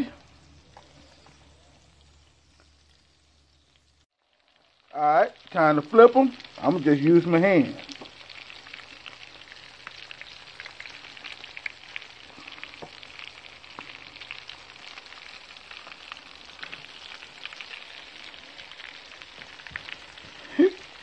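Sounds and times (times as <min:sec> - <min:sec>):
oil sizzling with pops: 0:00.0 - 0:21.0.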